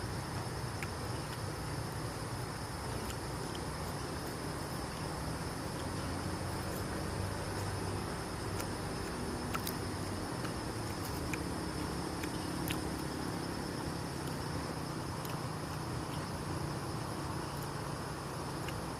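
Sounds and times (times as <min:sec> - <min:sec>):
insect chorus: 0:00.0 - 0:18.9
low background hum: 0:00.0 - 0:18.9.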